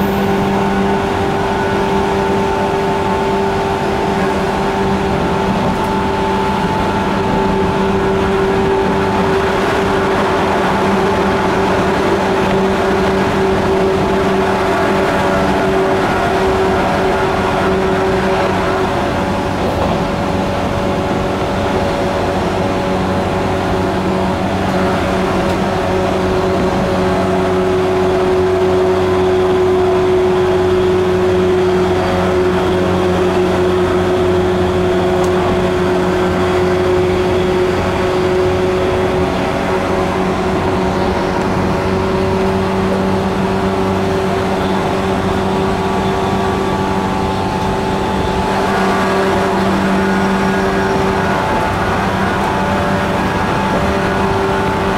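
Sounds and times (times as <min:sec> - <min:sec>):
electric train motors growling: 0:00.0 - 0:54.9
wheels rumbling on rails: 0:00.0 - 0:54.9.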